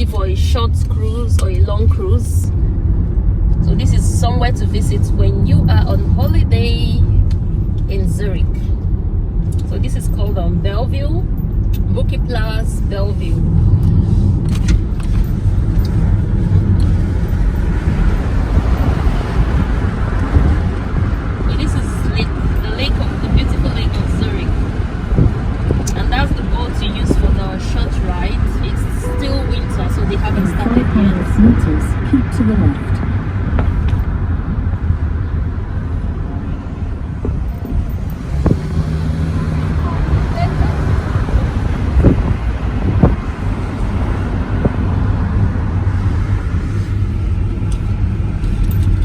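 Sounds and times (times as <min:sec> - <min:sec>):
engine and tyre rumble: 0:00.0 - 0:49.0.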